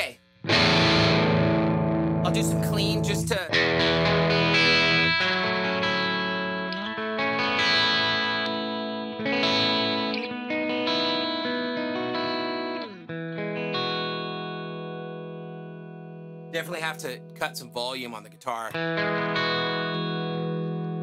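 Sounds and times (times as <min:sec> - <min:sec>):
electric guitar strummed chords: 0:00.0 - 0:21.0.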